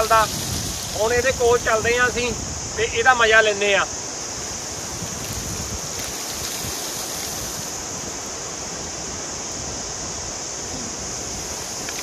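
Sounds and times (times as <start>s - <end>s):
mountain water rushing: 0.0s - 12.0s
wind rumble on microphone: 0.0s - 12.0s.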